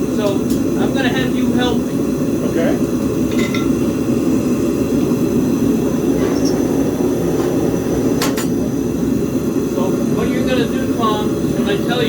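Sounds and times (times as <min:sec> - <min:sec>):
gas forge burner roaring: 0:00.0 - 0:12.0.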